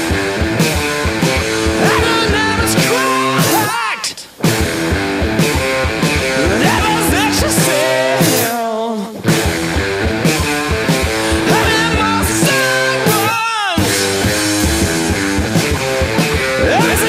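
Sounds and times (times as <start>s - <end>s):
distorted electric guitar chords: 0.0s - 3.8s, 4.4s - 17.0s
drum beat: 0.0s - 8.6s, 9.2s - 17.0s.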